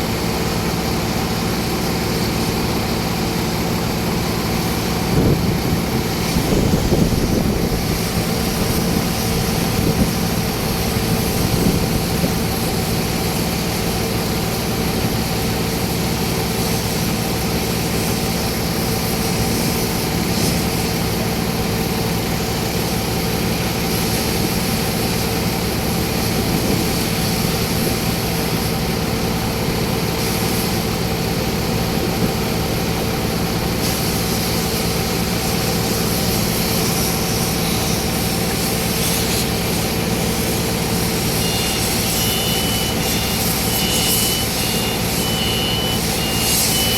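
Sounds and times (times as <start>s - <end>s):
engine droning steadily: 0.0s - 46.9s
hiss: 4.5s - 46.9s.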